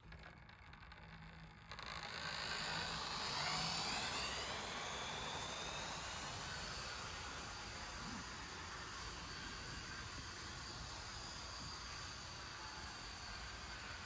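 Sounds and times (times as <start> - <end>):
faint motor whine: 0.0 - 14.0
model train whirring past: 2.1 - 14.0.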